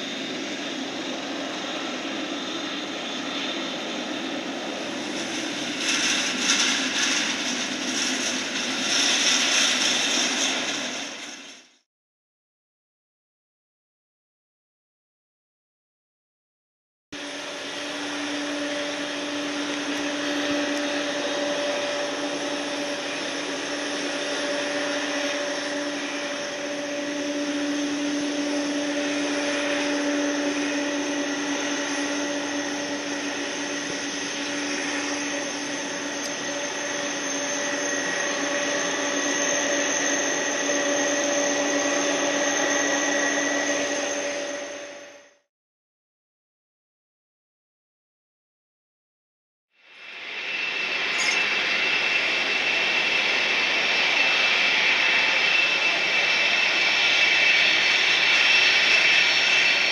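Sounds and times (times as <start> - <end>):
jet engines roaring and whining: 0.0 - 11.8, 17.2 - 45.4, 49.8 - 59.9.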